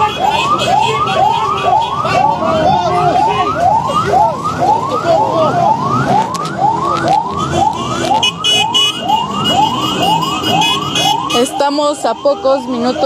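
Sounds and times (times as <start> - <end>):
higher siren tone: 0.0 - 13.0
siren yelping: 0.0 - 13.0.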